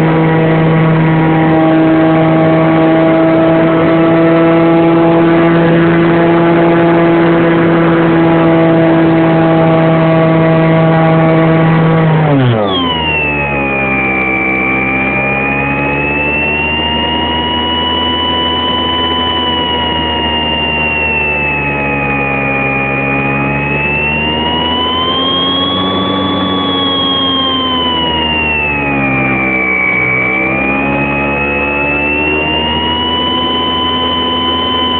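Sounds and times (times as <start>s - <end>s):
electric model plane motor drone: 0.0s - 34.9s.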